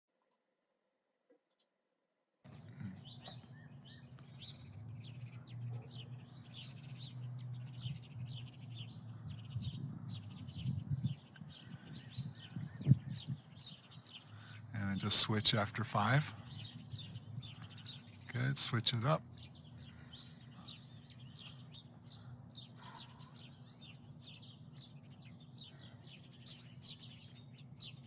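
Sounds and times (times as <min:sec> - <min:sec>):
songbirds chirping: 0:02.4 - 0:28.0
low outdoor rumble: 0:02.5 - 0:28.0.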